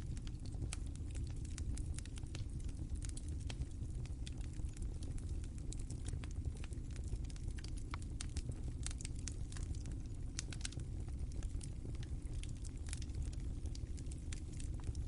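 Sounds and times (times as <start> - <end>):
fire crackling and popping: 0.0 - 15.0
rumble of flames: 0.0 - 15.0.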